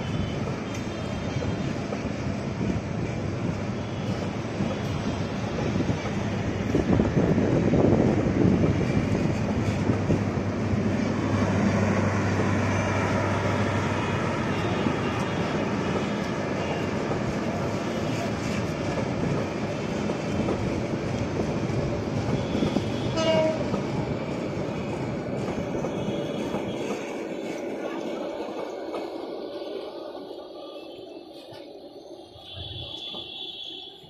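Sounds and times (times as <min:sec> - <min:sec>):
train rumbling on rails: 0:00.0 - 0:34.0.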